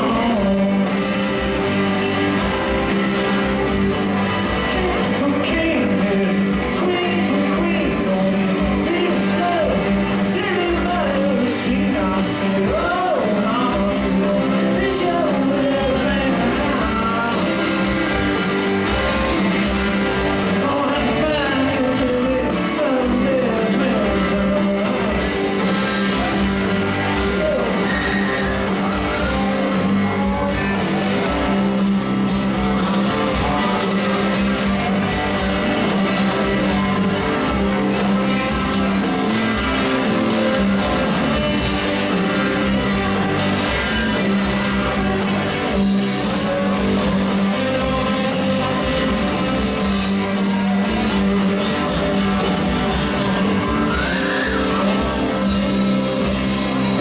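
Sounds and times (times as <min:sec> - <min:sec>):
blues-rock band playing: 0:00.0 - 0:57.0
electric guitar bending lead line: 0:00.0 - 0:57.0.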